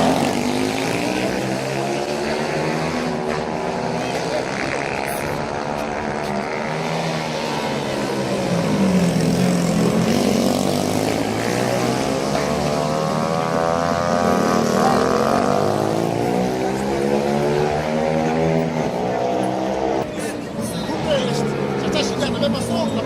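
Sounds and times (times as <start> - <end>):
racing motorcycle engines revving: 0.0 - 23.0.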